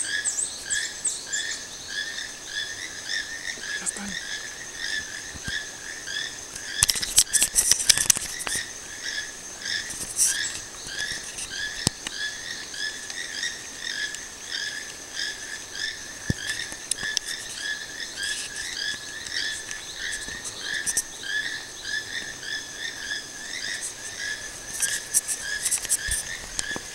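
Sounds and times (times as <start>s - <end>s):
toucans calling: 0.0s - 26.9s.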